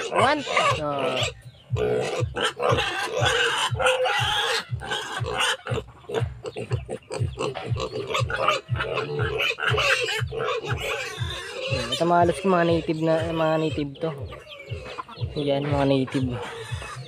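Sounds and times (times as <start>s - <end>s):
pigs grunting: 0.0s - 17.0s.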